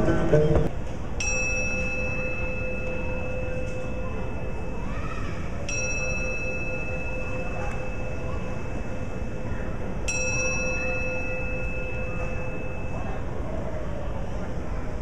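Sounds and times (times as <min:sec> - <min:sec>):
singing bowl ringing: 0:01.2 - 0:14.2.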